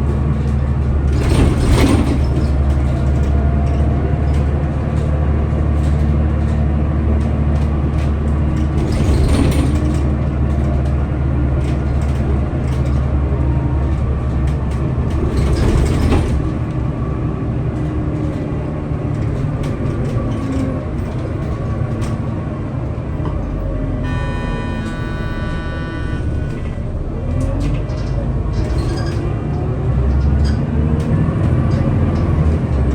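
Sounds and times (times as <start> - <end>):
bus engine drone with rattles: 0.0 - 32.9.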